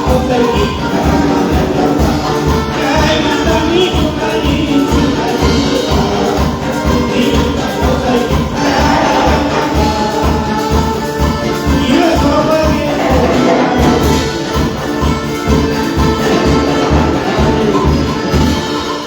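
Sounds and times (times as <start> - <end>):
upbeat church praise band music: 0.0 - 19.0.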